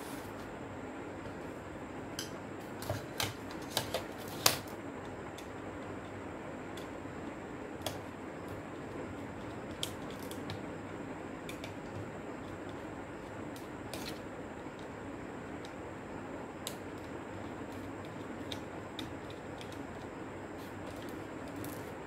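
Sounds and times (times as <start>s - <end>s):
steady low hiss: 0.0s - 22.0s.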